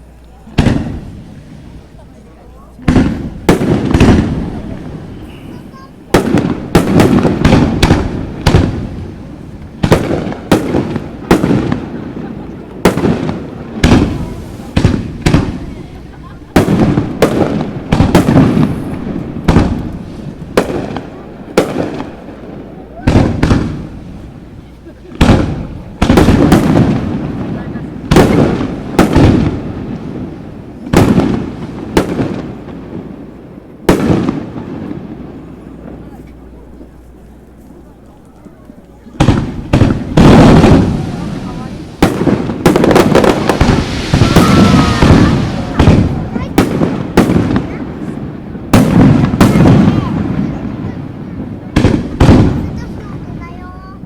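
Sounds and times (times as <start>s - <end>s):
firework shells booming: 0.5s - 54.0s.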